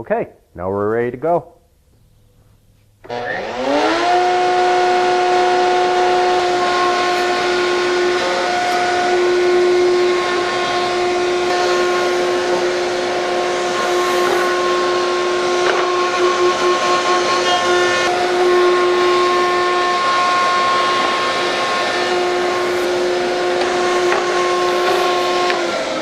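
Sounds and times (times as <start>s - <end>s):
router motor running: 3.0s - 26.0s.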